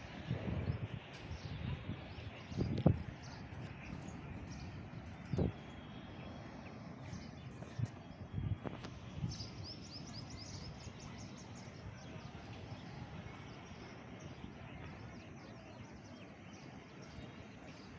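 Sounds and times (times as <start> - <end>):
small birds chirping: 0.1 - 17.9.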